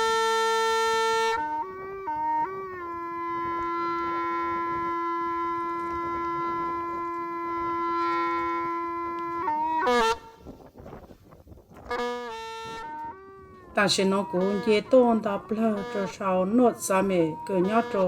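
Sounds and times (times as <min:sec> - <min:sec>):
wind instrument long note: 0:00.0 - 0:10.7, 0:11.7 - 0:18.0.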